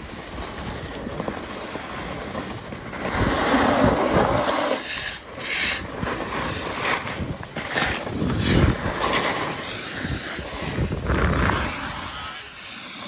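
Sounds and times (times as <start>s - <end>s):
snowboard edge scrapes: 0.0s - 13.0s
snowboards gliding hiss: 0.0s - 13.0s.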